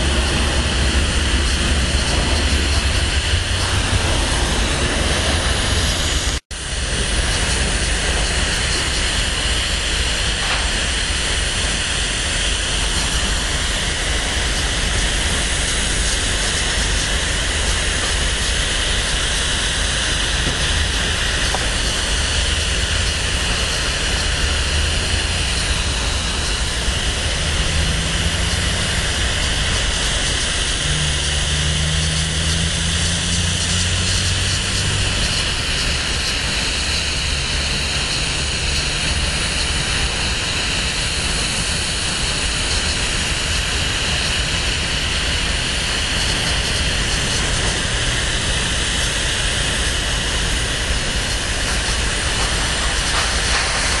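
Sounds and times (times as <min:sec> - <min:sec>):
freight cars rolling past: 0:00.0 - 0:54.0.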